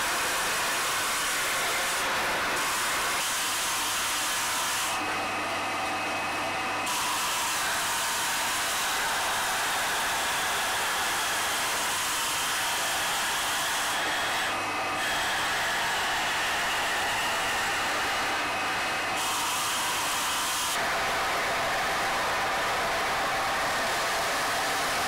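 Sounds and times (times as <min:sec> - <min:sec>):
stone-carving machines whirring: 0:00.0 - 0:25.0.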